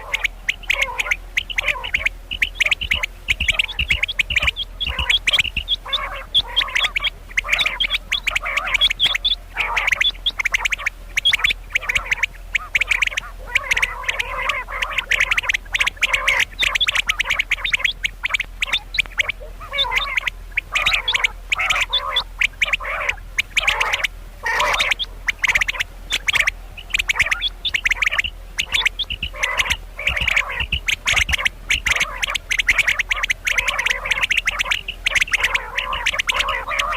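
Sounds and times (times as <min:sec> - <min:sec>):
quail calling: 0:00.0 - 0:36.9.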